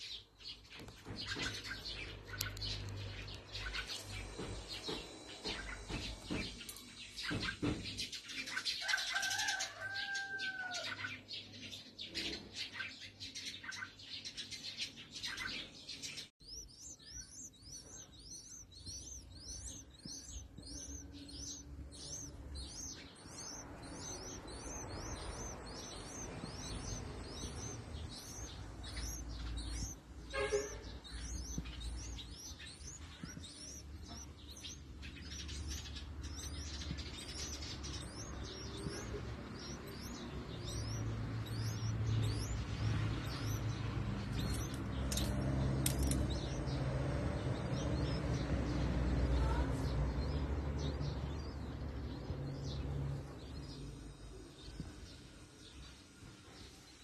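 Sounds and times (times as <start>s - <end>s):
nestlings chirping: 0.0s - 57.0s.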